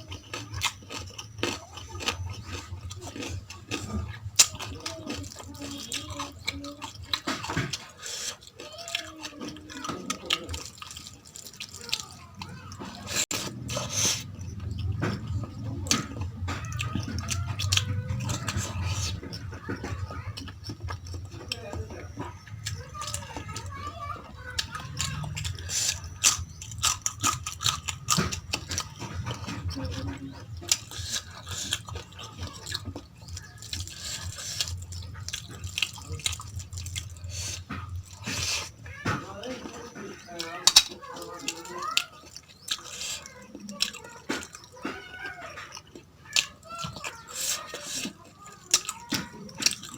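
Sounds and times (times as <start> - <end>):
wet chewing and mouth sounds: 0.0 - 49.9.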